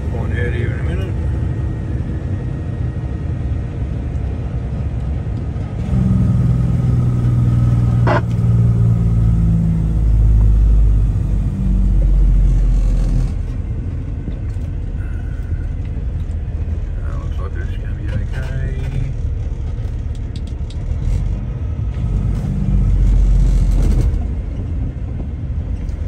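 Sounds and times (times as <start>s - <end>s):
road noise: 0.0s - 26.0s
truck engine: 0.0s - 26.0s.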